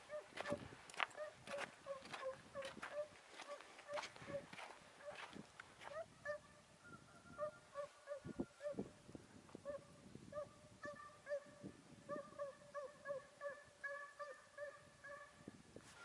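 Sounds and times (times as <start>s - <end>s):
hound baying yelps: 0.0s - 0.6s, 1.2s - 8.8s, 9.7s - 11.5s, 12.1s - 15.4s.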